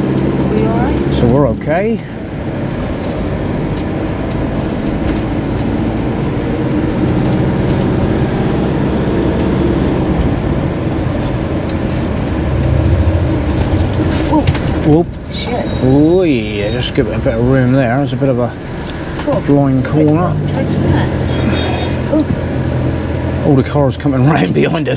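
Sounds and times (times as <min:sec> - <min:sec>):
motorcycles passing: 0:00.0 - 0:24.9
vehicle engine and road noise: 0:00.0 - 0:24.9.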